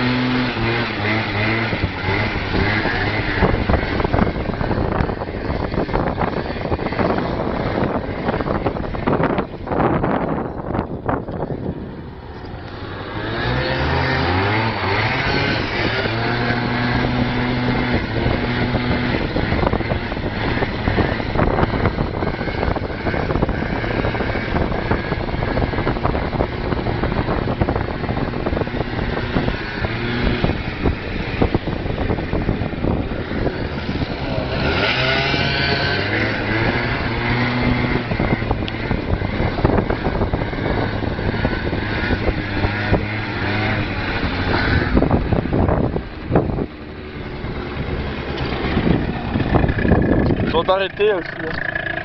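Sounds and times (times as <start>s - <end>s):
constant rushing noise: 0.0s - 52.0s
motorbike engine revving: 0.0s - 52.0s.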